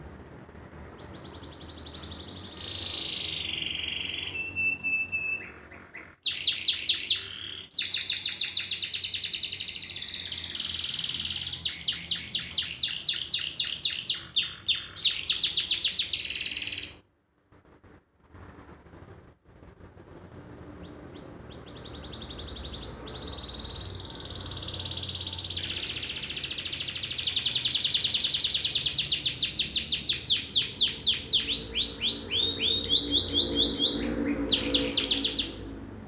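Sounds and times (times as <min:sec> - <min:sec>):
canary singing trills: 0:00.9 - 0:17.0, 0:20.8 - 0:35.8.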